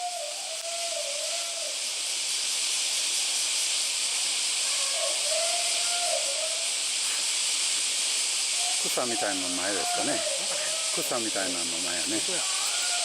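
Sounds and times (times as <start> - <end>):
high outdoor hiss: 0.0 - 13.0.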